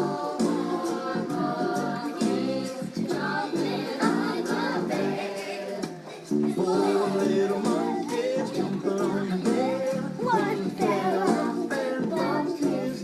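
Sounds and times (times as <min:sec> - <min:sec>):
young children singing: 0:00.0 - 0:13.0.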